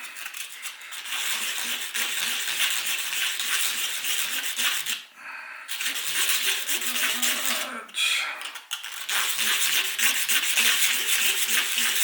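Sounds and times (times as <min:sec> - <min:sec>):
sandpaper sanding wood: 0:00.2 - 0:05.0, 0:05.7 - 0:07.7, 0:08.9 - 0:12.0.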